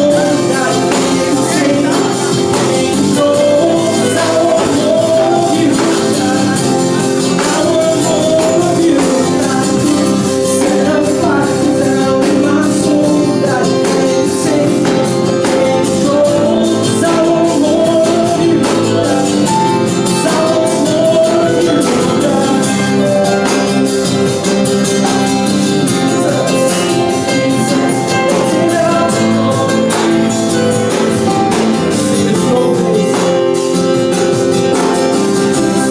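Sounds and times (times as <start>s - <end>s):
live worship music with singing: 0.0s - 35.9s.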